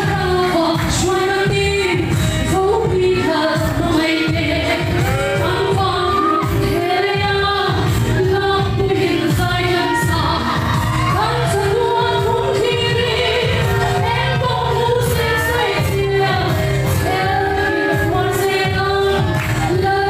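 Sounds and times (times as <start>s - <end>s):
woman singing into microphone: 0.0s - 20.0s.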